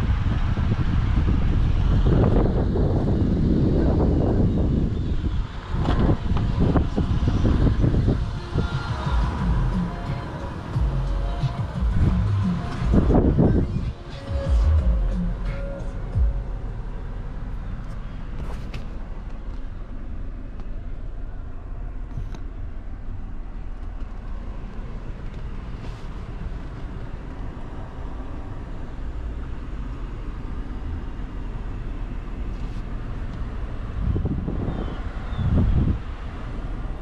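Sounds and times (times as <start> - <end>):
car engine low rumble: 0.0 - 37.0.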